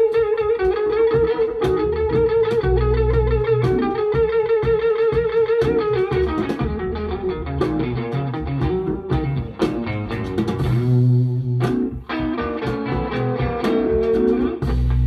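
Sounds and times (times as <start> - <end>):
blues guitar music with bass: 0.0 - 15.0.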